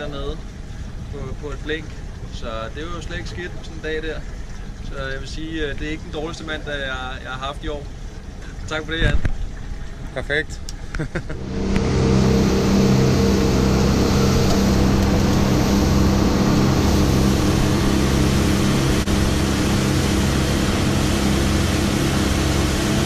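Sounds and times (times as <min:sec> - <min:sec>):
boat engine running: 0:00.0 - 0:23.0
rush of wind and water: 0:00.0 - 0:23.0.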